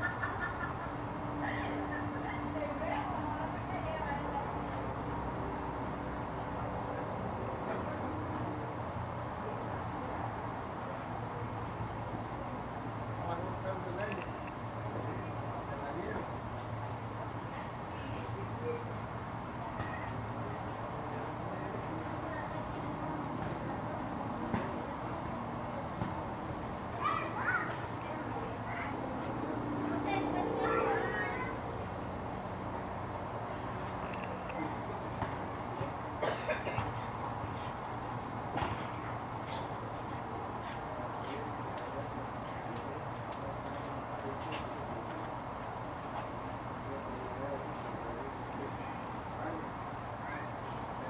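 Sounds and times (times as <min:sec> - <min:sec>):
insect trill: 0:00.0 - 0:51.0.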